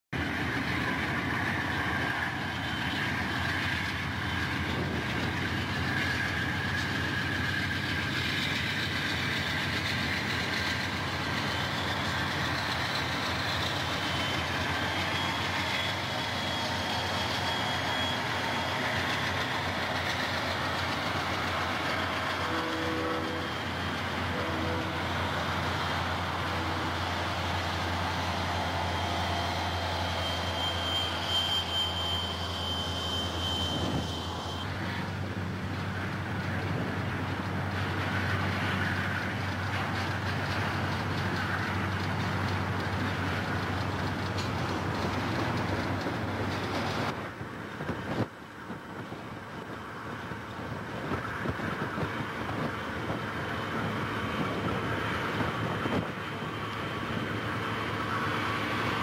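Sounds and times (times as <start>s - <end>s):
diesel locomotive engines: 0.1s - 59.0s
train wheels on rail: 0.2s - 59.0s.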